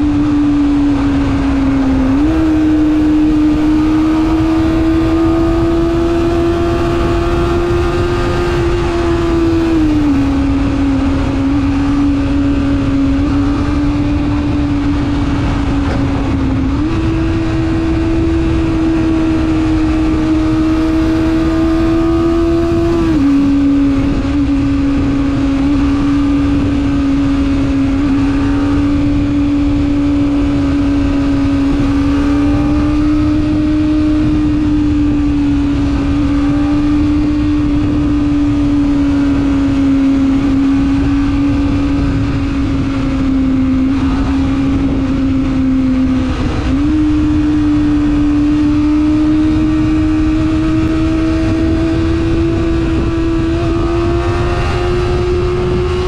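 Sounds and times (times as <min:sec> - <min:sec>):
motorcycle engine at high revs: 0:00.0 - 0:56.0
wind and road noise rumble: 0:00.0 - 0:56.0.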